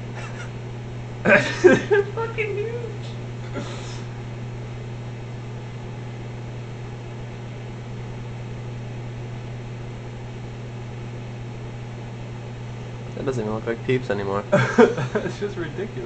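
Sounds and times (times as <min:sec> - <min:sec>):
cooling fan whoosh: 0:00.0 - 0:16.0
microwave transformer hum: 0:00.0 - 0:16.0.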